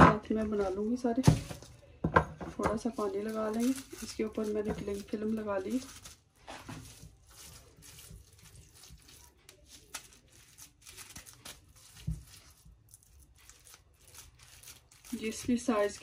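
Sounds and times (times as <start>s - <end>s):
cling film crinkling: 2.8s - 16.0s.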